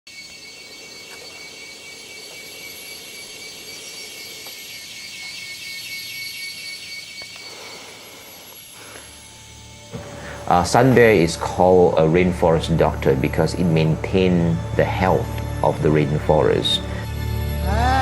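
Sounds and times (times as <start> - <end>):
insects droning: 0.1 - 18.0
pulsing insect trill: 0.1 - 18.0.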